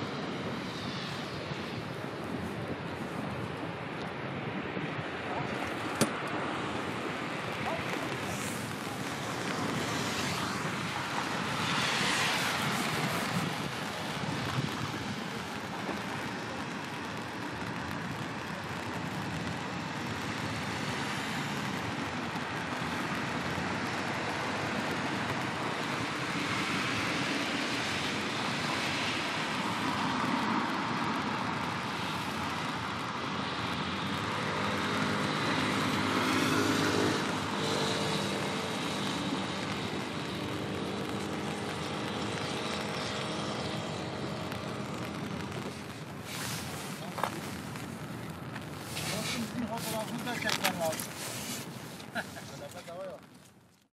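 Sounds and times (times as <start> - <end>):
passing motor vehicles: 0.0 - 53.3.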